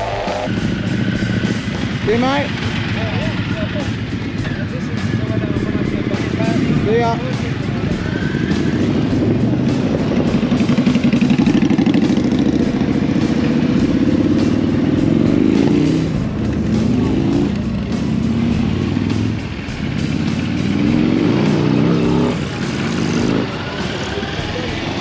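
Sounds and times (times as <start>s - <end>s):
motorcycles accelerating away: 0.0s - 25.0s.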